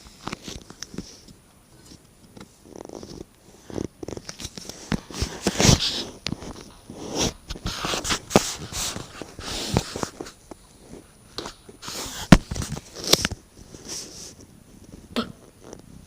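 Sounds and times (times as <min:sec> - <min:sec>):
scratching and rustling: 0:00.0 - 0:16.0.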